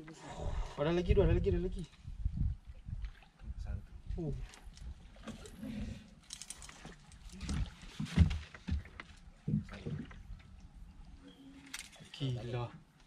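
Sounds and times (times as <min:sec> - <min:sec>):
water moving against hull: 0:00.0 - 0:13.0.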